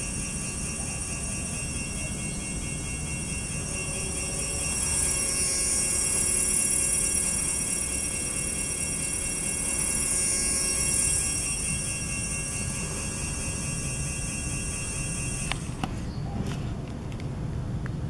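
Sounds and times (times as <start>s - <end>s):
hub motor whining: 0.0s - 16.2s.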